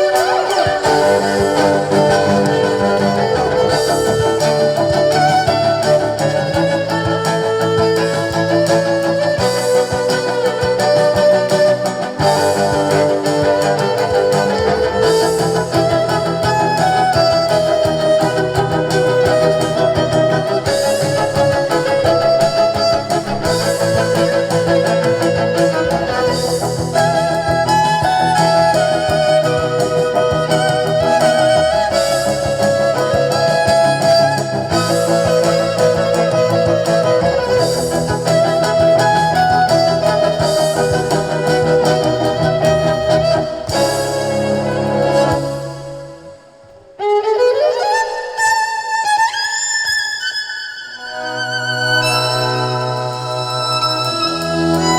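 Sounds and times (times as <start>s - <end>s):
band playing instrumental music: 0.0s - 47.6s, 51.3s - 54.9s.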